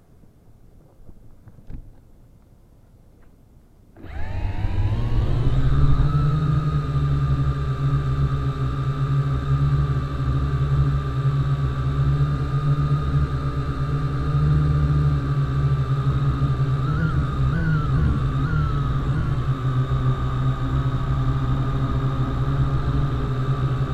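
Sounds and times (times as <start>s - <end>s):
drone motors whining: 4.0s - 23.9s.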